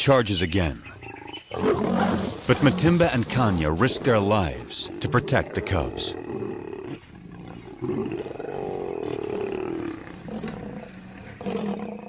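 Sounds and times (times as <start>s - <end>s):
lions snarling and roaring: 0.8s - 12.0s.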